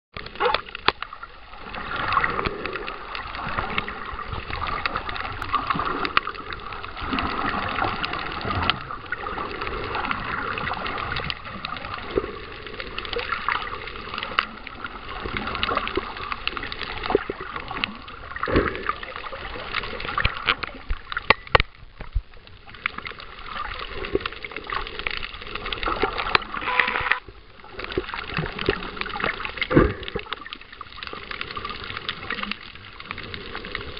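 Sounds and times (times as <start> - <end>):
underwater clicks and crackles: 0.2 - 33.9.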